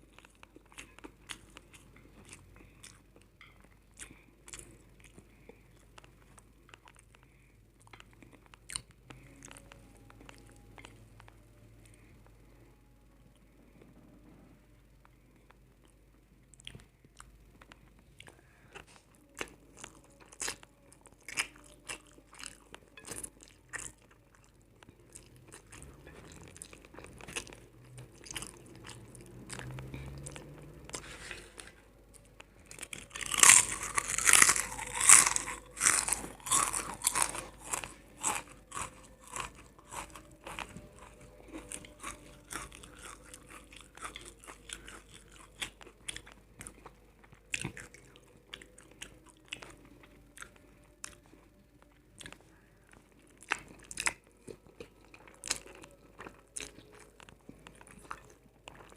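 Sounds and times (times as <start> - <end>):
chewing crunchy food: 0.0 - 12.1, 15.0 - 58.9.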